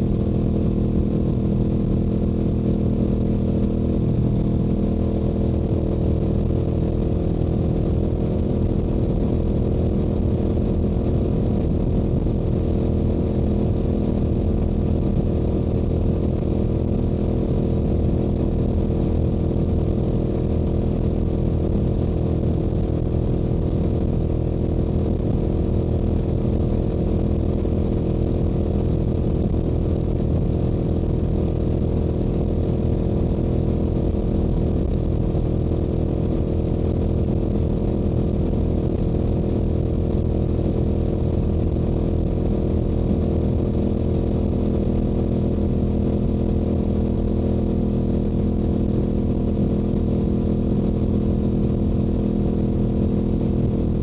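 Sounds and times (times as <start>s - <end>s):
motorcycle engine cruising: 0.0s - 45.6s.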